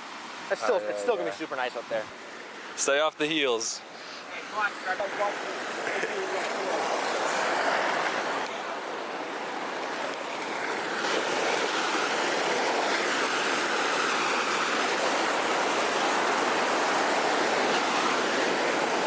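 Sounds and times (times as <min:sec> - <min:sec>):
stream and waterfall rushing: 0:00.0 - 0:19.0.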